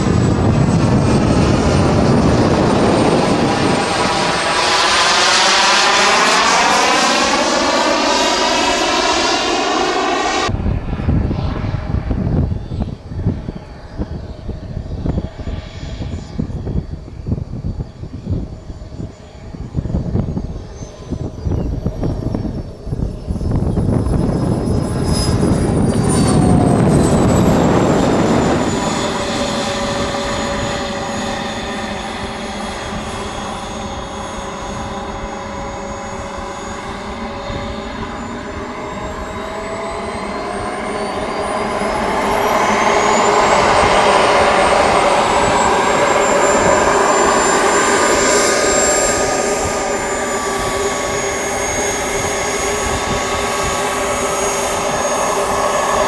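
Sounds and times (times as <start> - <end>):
model jet turbine whining: 0.0 - 56.0.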